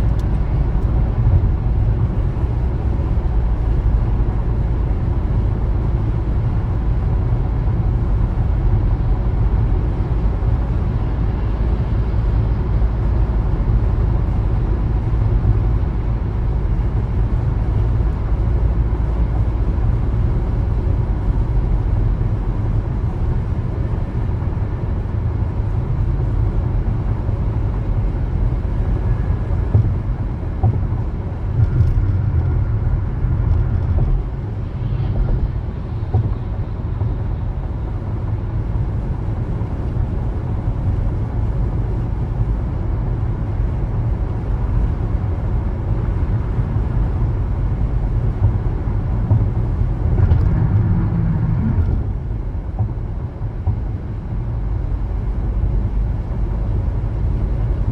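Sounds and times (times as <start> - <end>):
car road and tyre rumble: 0.0 - 57.9.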